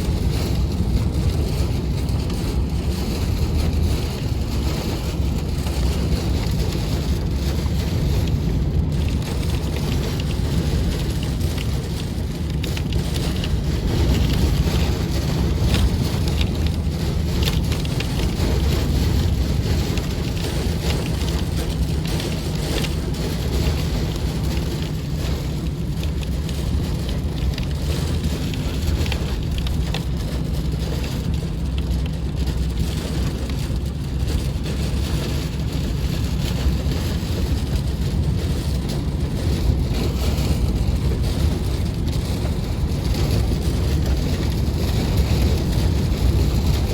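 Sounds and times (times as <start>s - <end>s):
car low rumble: 0.0s - 46.9s
heavy rain on a car: 0.0s - 46.9s
strong wind: 0.0s - 46.9s.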